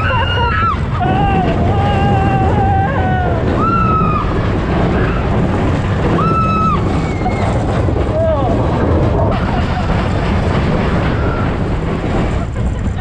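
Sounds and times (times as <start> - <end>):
roller coaster train rumbling: 0.0 - 13.0
wind on microphone: 0.0 - 13.0.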